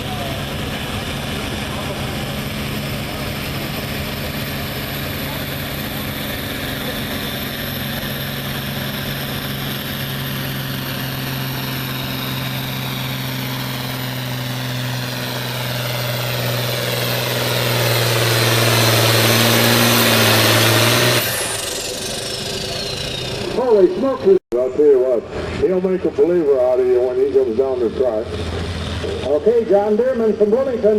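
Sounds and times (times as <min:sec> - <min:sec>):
tractor engine running hard: 0:00.0 - 0:24.4, 0:25.2 - 0:30.9.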